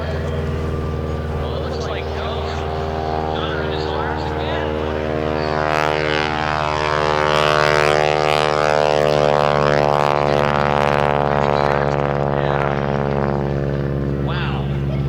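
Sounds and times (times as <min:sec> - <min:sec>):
biplane engine droning overhead: 0:00.0 - 0:15.0.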